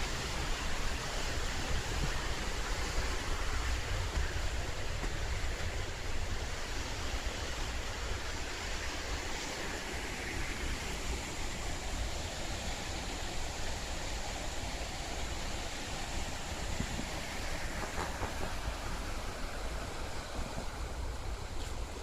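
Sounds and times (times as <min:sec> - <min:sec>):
rushing whitewater: 0:00.0 - 0:22.0.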